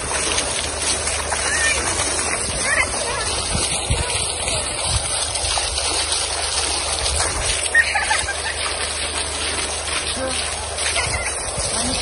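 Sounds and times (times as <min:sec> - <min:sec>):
fountain water splashing on stone: 0:00.0 - 0:12.0.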